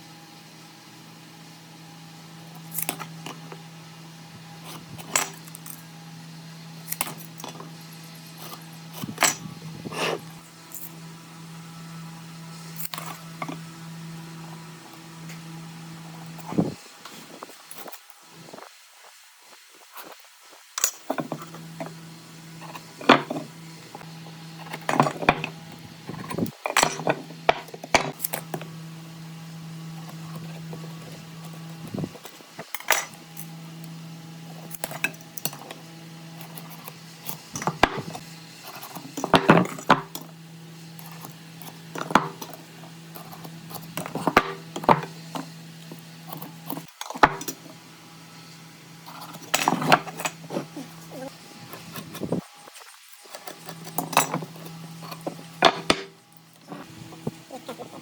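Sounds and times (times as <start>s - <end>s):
low machine hum: 0.0s - 17.5s, 21.1s - 52.6s.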